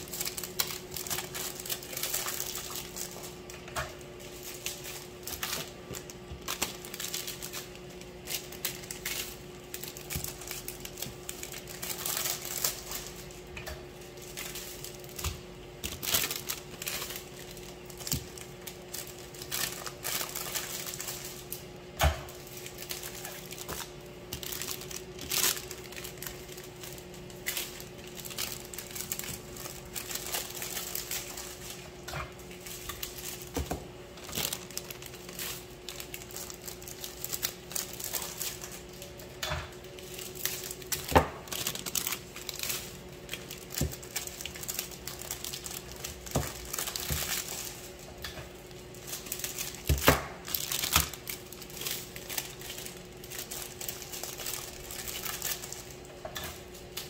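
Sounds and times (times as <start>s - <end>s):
cellophane bags crinkling: 0.0s - 57.0s.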